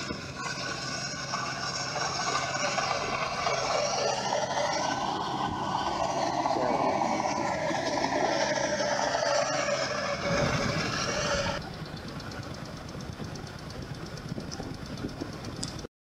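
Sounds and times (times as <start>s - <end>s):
combine harvester diesel engine: 0.0s - 15.9s.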